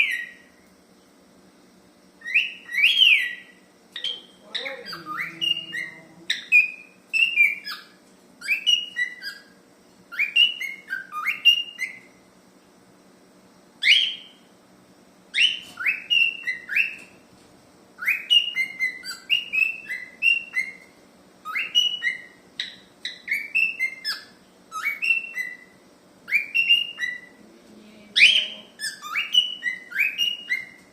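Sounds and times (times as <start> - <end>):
cockatiel whistling: 0.0 - 0.5, 2.2 - 12.1, 13.8 - 14.4, 15.3 - 17.2, 18.0 - 27.4, 28.2 - 30.9.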